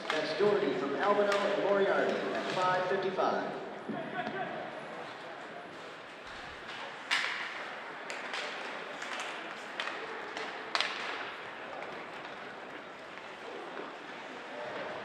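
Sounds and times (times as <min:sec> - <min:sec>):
hockey sticks and puck clacking: 0:00.0 - 0:03.1, 0:05.0 - 0:15.0
ice rink noise: 0:00.0 - 0:15.0.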